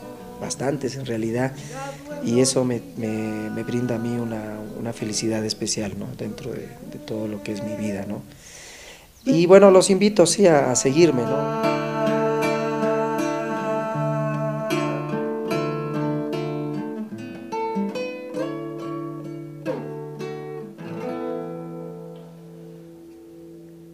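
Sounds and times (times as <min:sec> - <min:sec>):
classical guitar fingerstyle: 0:00.0 - 0:08.4, 0:09.2 - 0:23.9.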